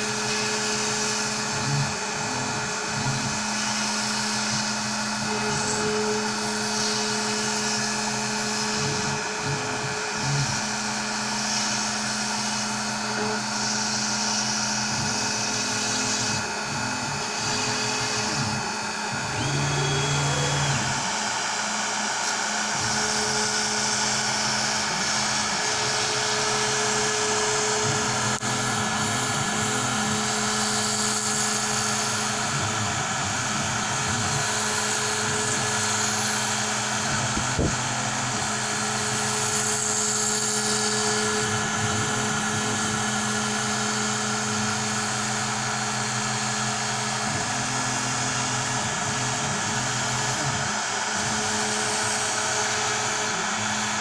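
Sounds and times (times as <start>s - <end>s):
router spindle high whine: 0.0s - 54.0s.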